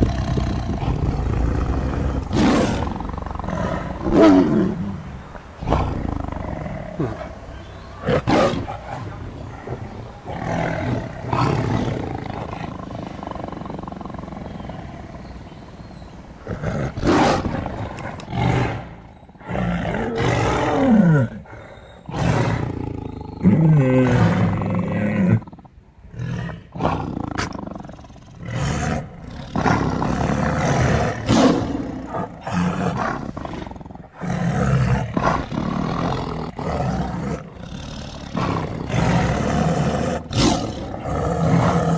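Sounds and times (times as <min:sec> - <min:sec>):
big cats roaring and growling: 0:00.0 - 0:41.9.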